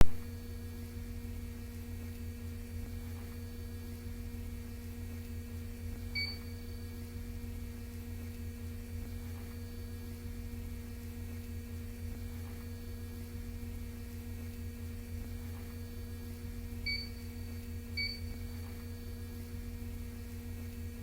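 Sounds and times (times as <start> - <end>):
subway car electrical hum: 0.0 - 21.0.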